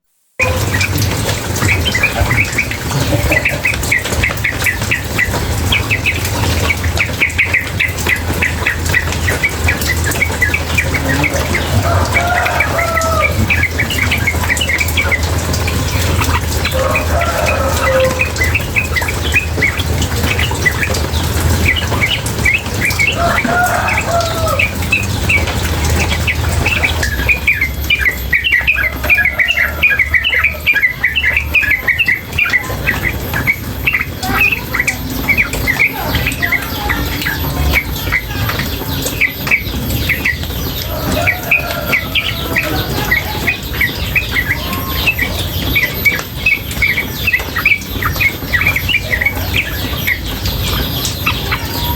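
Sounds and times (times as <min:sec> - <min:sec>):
bird chirping: 0:00.4 - 0:51.9
running water rushing: 0:00.4 - 0:51.9.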